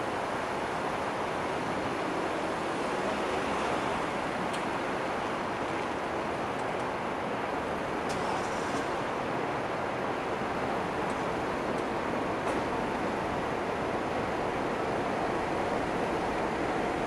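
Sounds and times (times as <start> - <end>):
street and traffic noise: 0.0 - 17.0.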